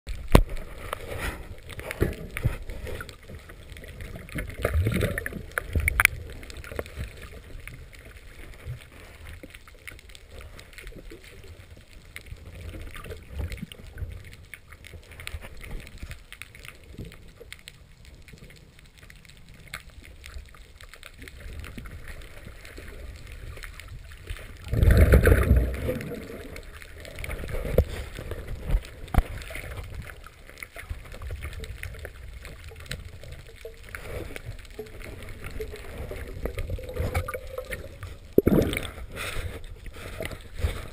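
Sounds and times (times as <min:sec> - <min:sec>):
clicks and knocks underwater: 0:00.1 - 0:40.9
underwater sloshing and gurgling: 0:00.1 - 0:40.9.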